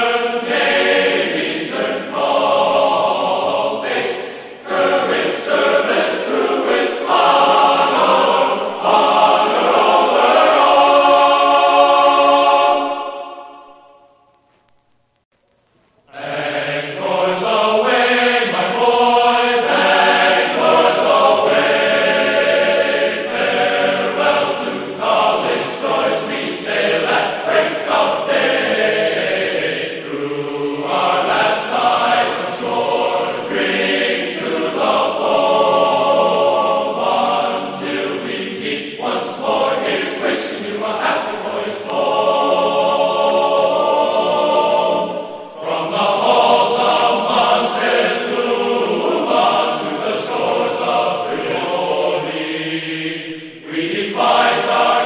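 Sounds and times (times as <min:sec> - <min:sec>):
choir singing: 0:00.0 - 0:14.3, 0:16.1 - 0:55.0.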